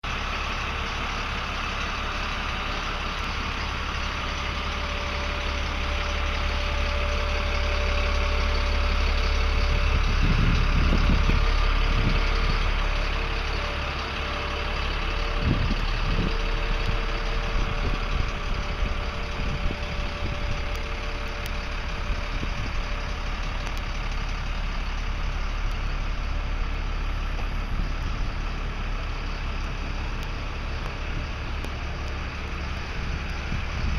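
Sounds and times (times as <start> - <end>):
road and wind noise: 0.0 - 33.9
vehicle engine rumbling: 0.0 - 33.9.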